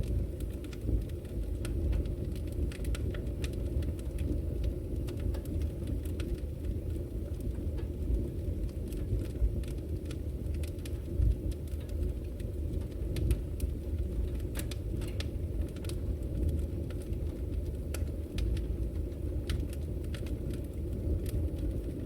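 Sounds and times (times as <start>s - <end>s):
fire crackles and pops: 0.0s - 22.0s
fire rumbling: 0.0s - 22.0s.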